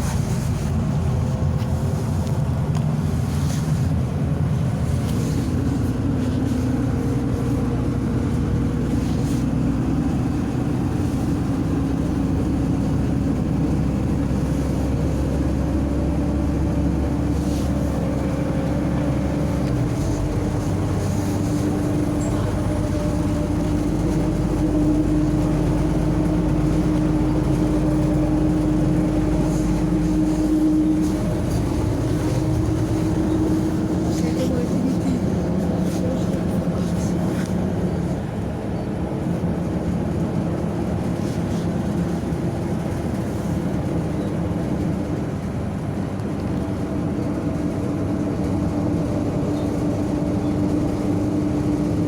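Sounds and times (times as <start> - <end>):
bus diesel engine hum: 0.0 - 52.0
road noise: 0.0 - 52.0.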